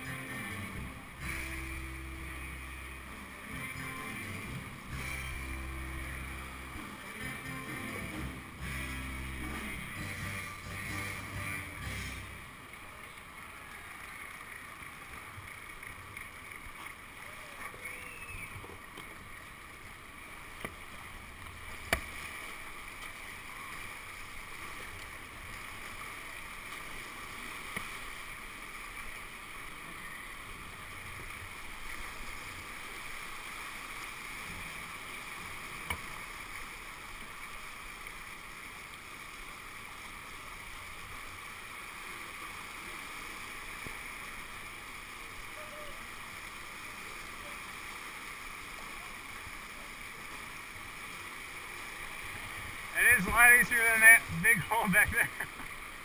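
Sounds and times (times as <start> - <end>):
rushing whitewater: 0.0 - 56.0.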